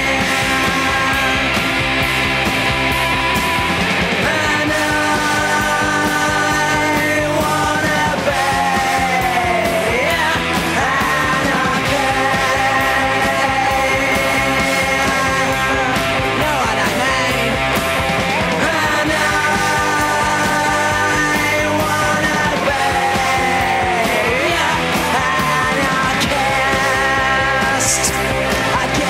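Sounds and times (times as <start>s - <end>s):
bass guitar: 0.0s - 29.0s
distorted electric guitars: 0.0s - 29.0s
drums: 0.0s - 29.0s.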